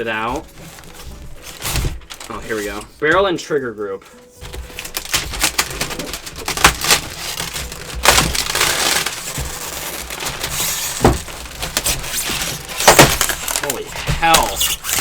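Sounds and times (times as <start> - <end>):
packaging crinkling: 0.0 - 3.0, 4.1 - 15.0.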